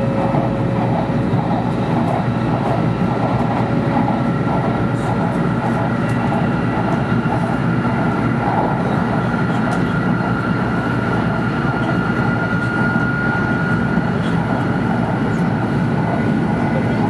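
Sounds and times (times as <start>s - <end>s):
train rushing roar inside cabin: 0.0s - 17.0s.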